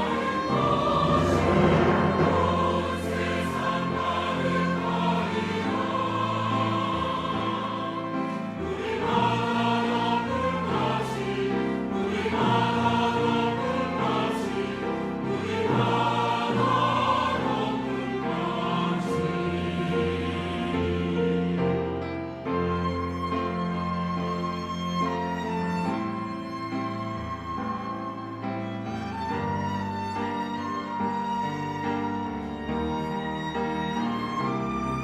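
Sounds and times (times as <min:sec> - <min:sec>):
choir singing in harmony: 0:00.0 - 0:35.0.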